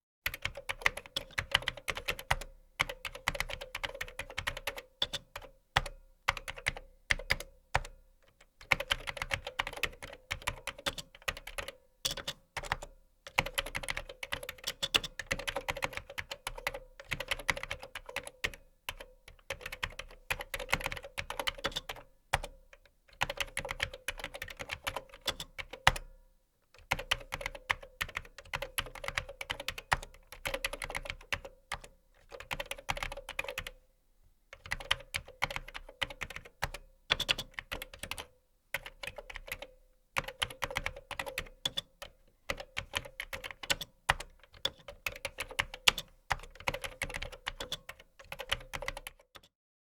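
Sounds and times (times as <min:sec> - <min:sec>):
typing on computer keyboard: 0:00.3 - 0:26.2, 0:26.8 - 0:33.8, 0:34.6 - 0:49.6.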